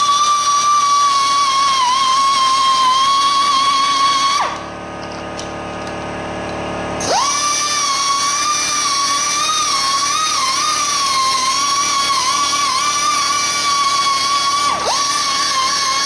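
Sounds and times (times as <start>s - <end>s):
rotary grinder whining: 0.0s - 5.2s, 7.0s - 16.0s.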